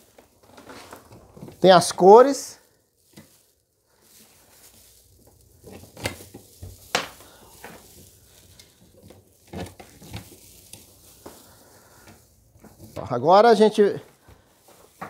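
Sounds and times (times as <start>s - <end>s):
artificial tree branches rustling: 0.0s - 15.0s.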